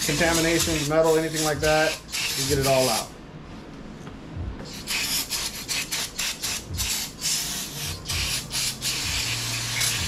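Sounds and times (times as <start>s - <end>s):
aerosol spray hissing: 0.0s - 3.1s, 4.7s - 10.0s.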